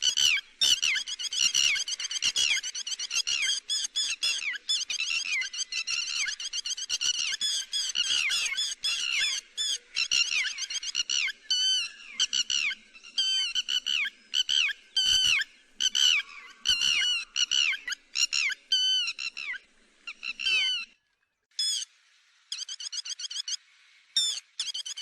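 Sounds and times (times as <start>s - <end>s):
lapwing calling: 0.0s - 21.0s.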